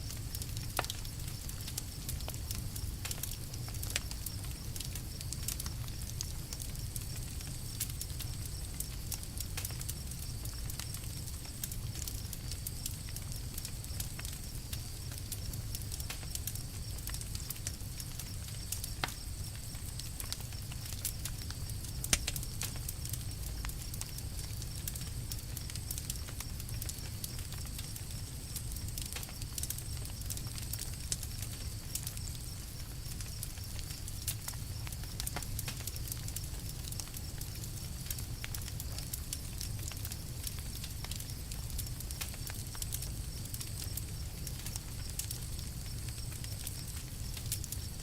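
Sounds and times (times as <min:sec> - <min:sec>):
burning wood rumble: 0:00.0 - 0:48.0
campfire crackling: 0:00.0 - 0:48.0.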